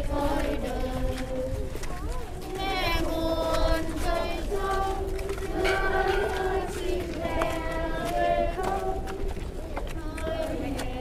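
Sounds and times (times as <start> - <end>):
steady low rumble: 0.0 - 11.0
voices singing slow melody: 0.0 - 11.0.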